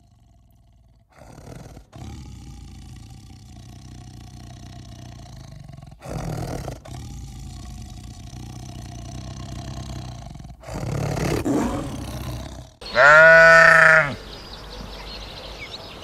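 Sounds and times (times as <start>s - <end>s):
tiger growling: 0.0s - 14.0s
tiger roaring: 0.0s - 14.1s.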